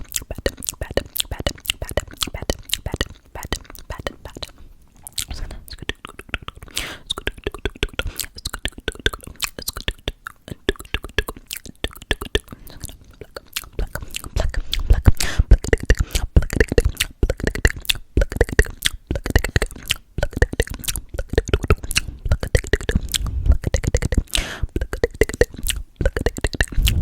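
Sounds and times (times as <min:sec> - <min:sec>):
wet mouth clicks and smacks: 0:00.0 - 0:27.0.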